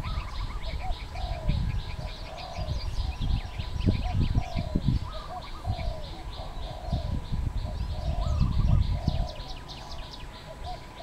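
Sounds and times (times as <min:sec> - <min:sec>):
dove cooing: 0:00.0 - 0:11.0
small birds chirping: 0:00.0 - 0:11.0.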